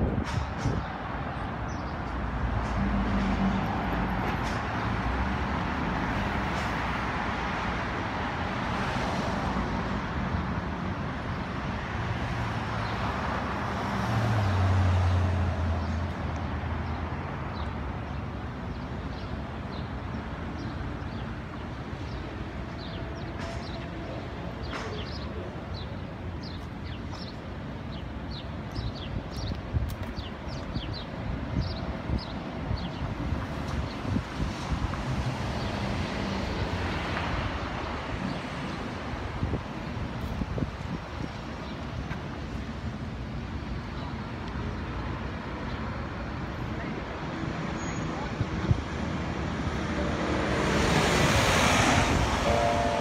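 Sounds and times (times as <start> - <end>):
street traffic: 0.0 - 53.0.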